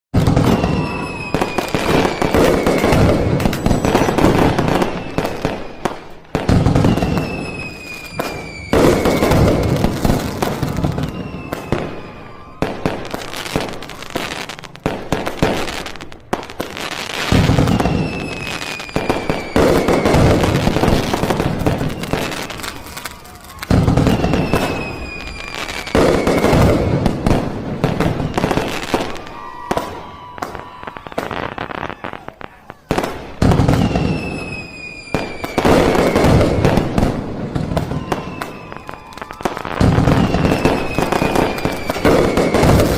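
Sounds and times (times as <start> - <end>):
fireworks crackling: 0.1 - 42.9
whistling fireworks: 0.1 - 42.9.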